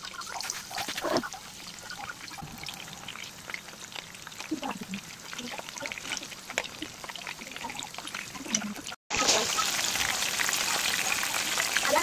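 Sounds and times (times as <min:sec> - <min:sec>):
shrimp deep-frying in oil: 0:00.0 - 0:12.0.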